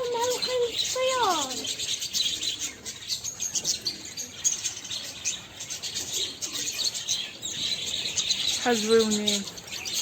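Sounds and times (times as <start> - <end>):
flock of birds chirping: 0.0 - 10.0.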